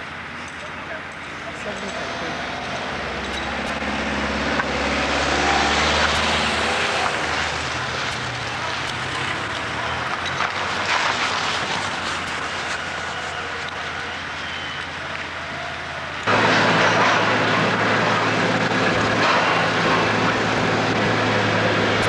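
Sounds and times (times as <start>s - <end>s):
diesel engine under load: 0.0s - 22.0s
sharp cracks: 2.5s - 15.4s, 16.1s - 21.2s.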